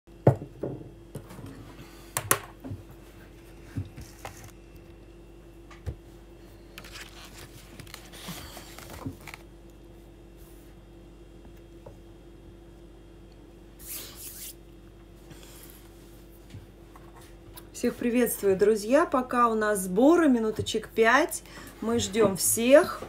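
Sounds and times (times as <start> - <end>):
steady low hum: 0.1 - 23.0.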